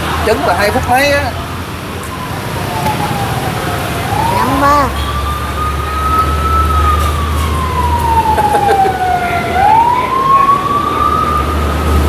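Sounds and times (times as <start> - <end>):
ambulance siren wailing: 1.7 - 12.0.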